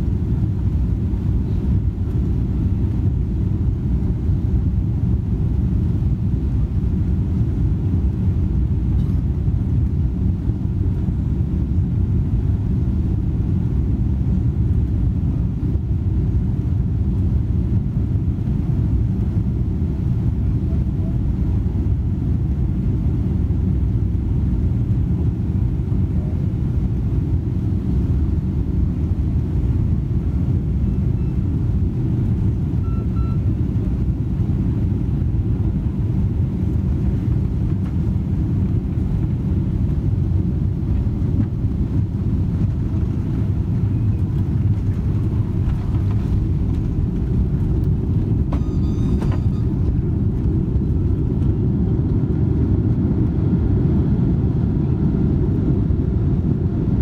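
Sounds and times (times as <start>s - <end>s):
airliner engines rumbling: 0.0s - 57.0s.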